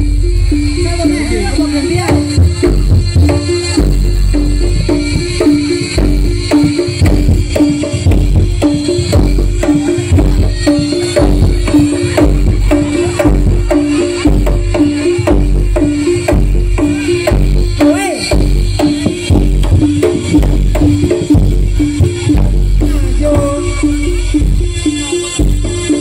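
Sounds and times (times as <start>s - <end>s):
gamelan music: 0.0s - 26.0s.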